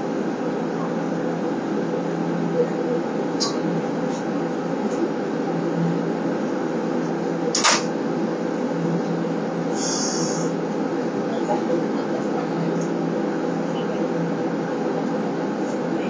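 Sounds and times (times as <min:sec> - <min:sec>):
streetcar running noise: 0:00.0 - 0:16.0.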